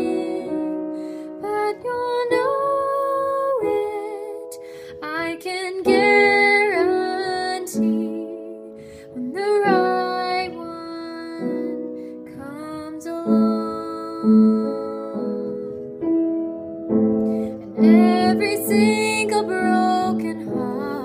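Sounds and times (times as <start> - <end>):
woman singing a ballad: 0.0 - 15.9, 17.3 - 21.0.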